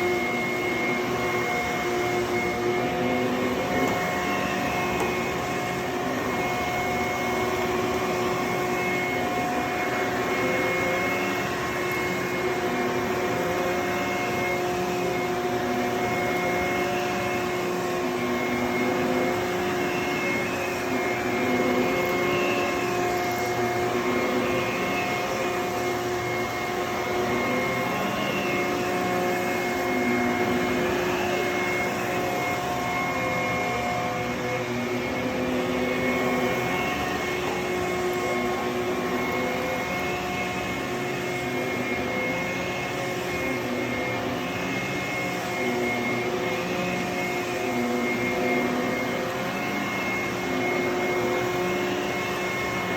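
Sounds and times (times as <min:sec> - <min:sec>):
cleaning head pushed over carpet: 0:00.0 - 0:52.9
vacuum cleaner motor whine: 0:00.0 - 0:52.9.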